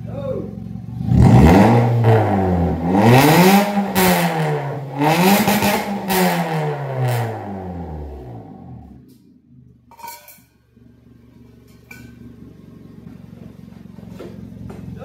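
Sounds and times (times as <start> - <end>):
car engine revving and idling: 0.0 - 9.9, 10.7 - 15.0.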